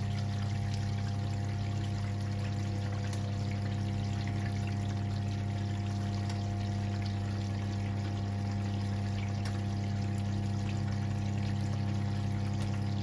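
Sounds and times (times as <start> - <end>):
drain pump humming: 0.0 - 13.0
water pouring and trickling: 0.0 - 13.0.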